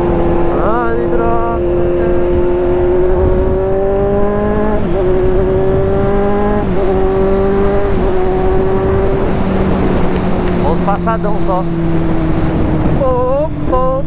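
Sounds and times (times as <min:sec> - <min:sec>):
motorcycle engine accelerating: 0:00.0 - 0:14.0
wind rush: 0:00.0 - 0:14.0.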